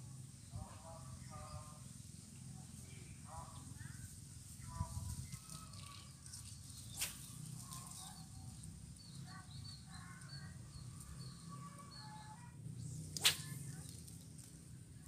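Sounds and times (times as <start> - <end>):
birdsong chirps: 0.1 - 14.5.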